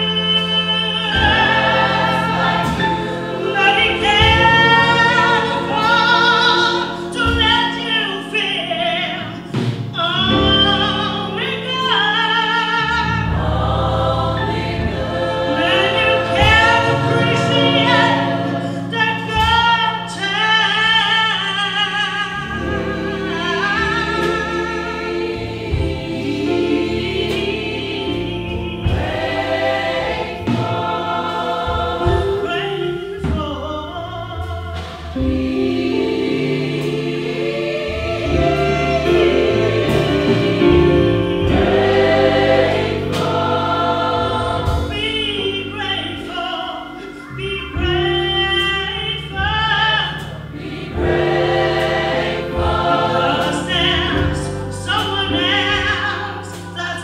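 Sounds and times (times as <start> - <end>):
gospel choir singing: 0.0 - 57.0
keyboard: 0.0 - 57.0.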